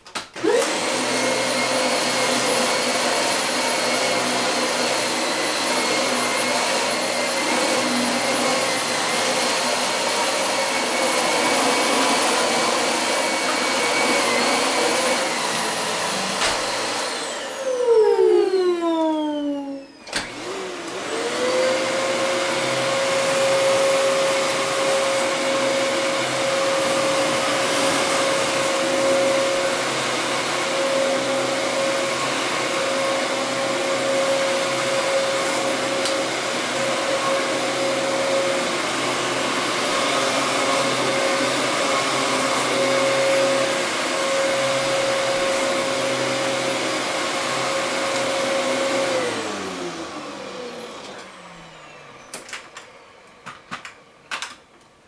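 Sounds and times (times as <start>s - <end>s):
vacuum cleaner motor whining: 0.2s - 54.7s.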